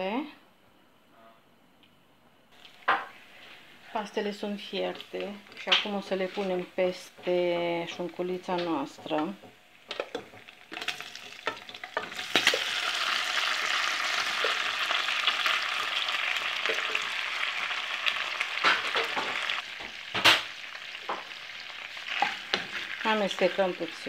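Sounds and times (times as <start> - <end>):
bacon sizzling in hot oil: 2.6 - 24.0.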